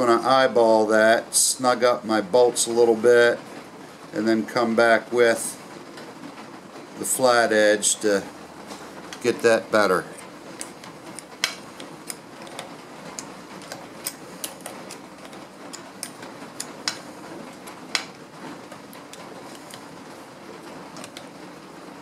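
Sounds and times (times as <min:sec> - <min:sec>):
faint background hum: 0:00.0 - 0:22.0.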